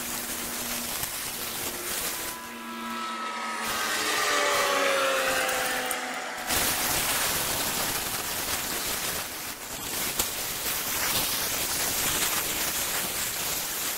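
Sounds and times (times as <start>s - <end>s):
meat sizzling on grill: 0.0s - 2.8s, 3.8s - 13.9s.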